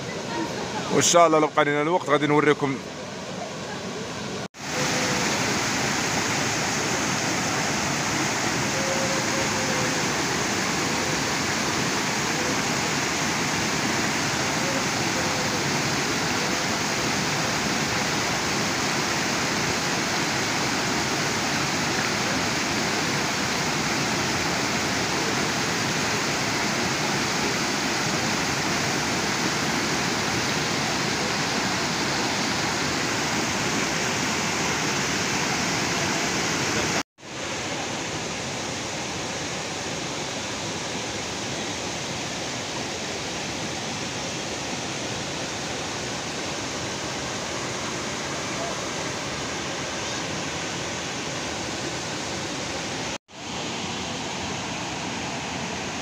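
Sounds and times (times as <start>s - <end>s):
waterfall pouring over rocks: 4.4s - 56.0s.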